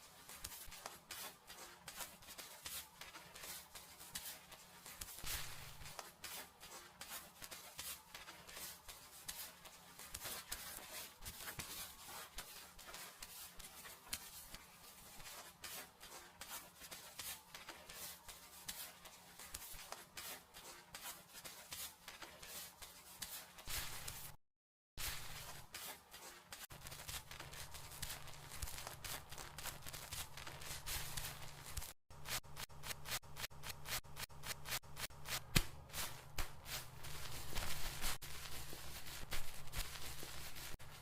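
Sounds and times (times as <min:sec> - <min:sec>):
fingers scratching through hair: 0:00.0 - 0:24.4, 0:25.0 - 0:41.0.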